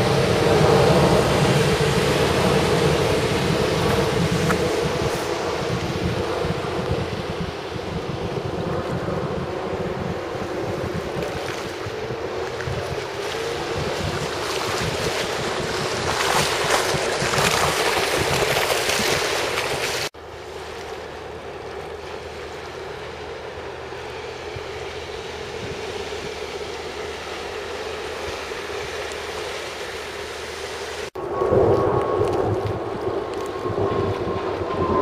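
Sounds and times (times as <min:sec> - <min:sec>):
wind noise on microphone: 0:00.0 - 0:20.1, 0:23.8 - 0:29.3, 0:31.0 - 0:35.0
outboard engine hum: 0:00.0 - 0:35.0
water noise: 0:00.0 - 0:35.0.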